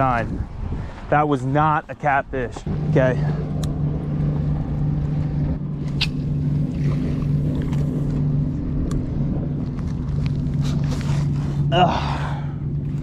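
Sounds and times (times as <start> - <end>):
small boat motor humming: 2.5 - 13.0.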